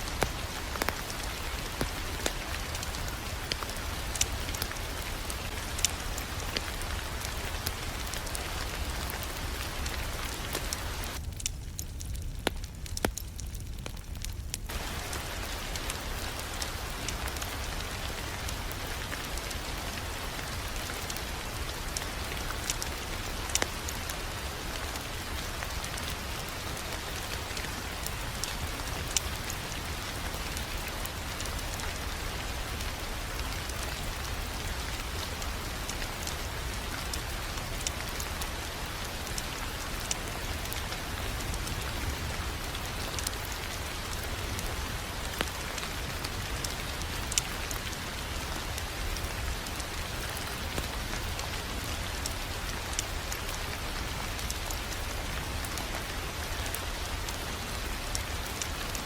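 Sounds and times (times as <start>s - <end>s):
rain-like hiss: 0.0s - 59.0s
wood fire crackling and popping: 0.0s - 59.0s.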